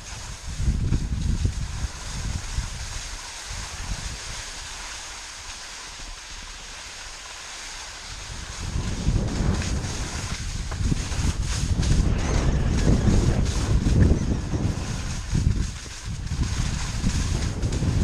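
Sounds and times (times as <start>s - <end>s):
wind buffeting microphone: 0.0s - 4.8s, 8.0s - 18.0s
skis hissing over snow: 0.0s - 18.0s.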